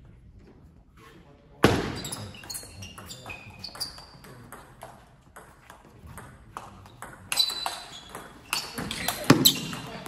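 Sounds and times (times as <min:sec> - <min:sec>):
table tennis ball hits: 0:01.6 - 0:10.0.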